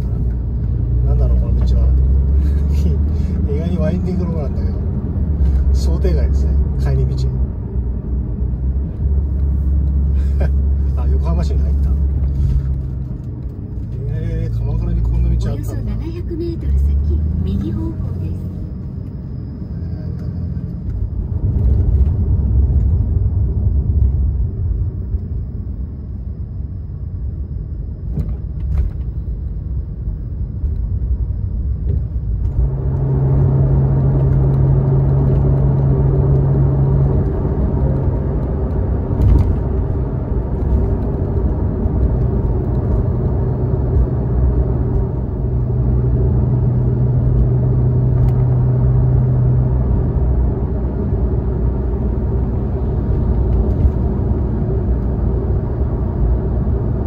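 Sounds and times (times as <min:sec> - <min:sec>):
car engine while driving: 0:00.0 - 0:57.0
road noise: 0:00.0 - 0:57.0.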